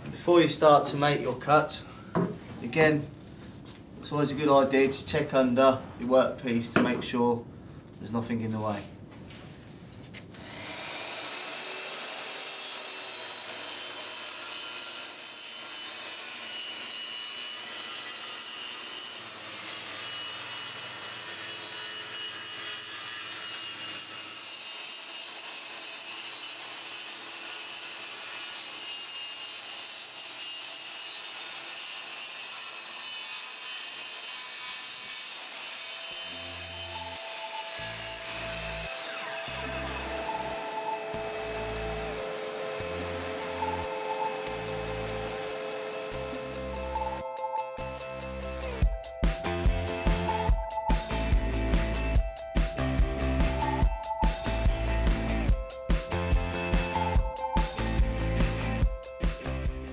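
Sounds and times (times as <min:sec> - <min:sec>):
circular saw cutting wood: 0:10.4 - 0:59.9.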